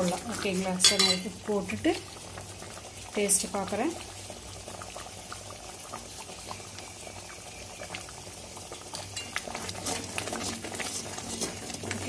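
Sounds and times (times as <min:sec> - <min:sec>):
curry gravy bubbling and popping: 0:00.0 - 0:12.0.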